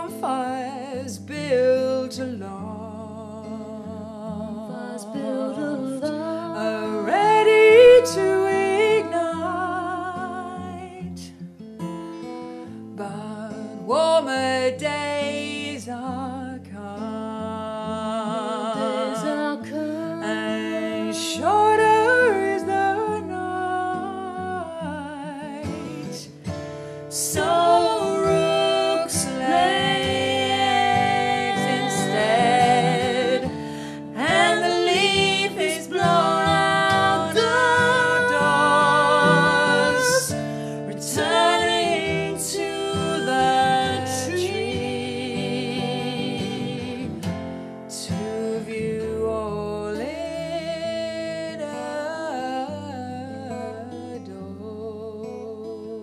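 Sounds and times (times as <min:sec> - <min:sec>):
women singing: 0:00.0 - 0:11.3, 0:12.9 - 0:56.0
guitar accompaniment: 0:00.0 - 0:56.0.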